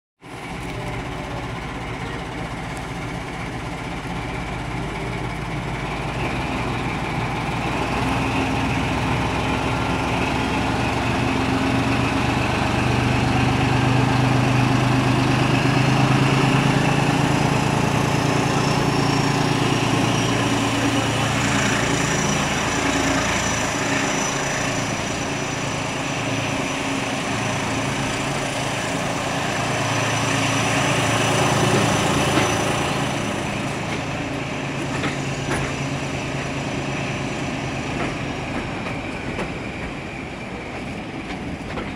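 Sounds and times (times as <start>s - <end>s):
diesel locomotive engine working: 0.2s - 41.9s.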